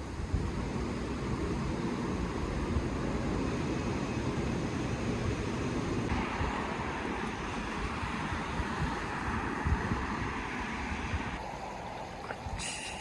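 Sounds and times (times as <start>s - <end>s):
road rumble: 0.0s - 13.0s
wind rushing over microphone: 0.0s - 13.0s.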